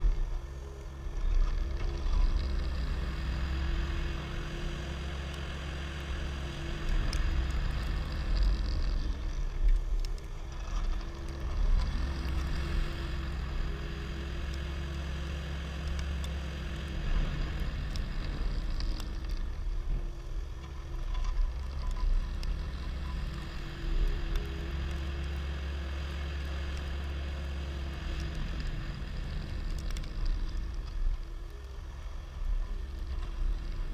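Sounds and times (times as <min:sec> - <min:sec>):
skid steer engine running: 0:00.0 - 0:33.9.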